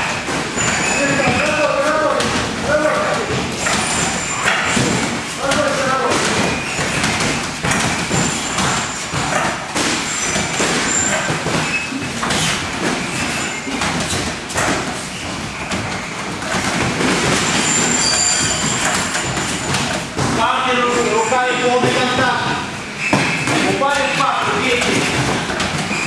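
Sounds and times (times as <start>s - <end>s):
knocks and thuds on mats: 0.0s - 20.7s, 21.8s - 26.0s.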